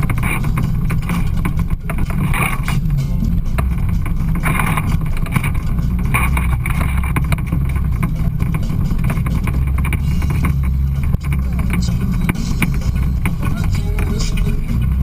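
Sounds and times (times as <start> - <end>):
knocks and rattles: 0.0 - 15.0
off-road vehicle engine running: 0.0 - 15.0.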